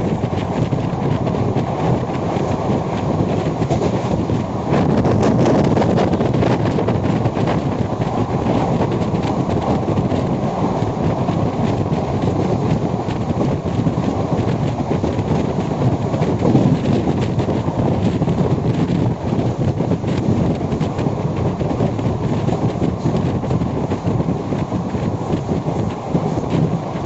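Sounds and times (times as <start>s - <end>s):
wheels clattering over rails: 0.0s - 27.0s
wind buffeting microphone: 0.0s - 27.0s.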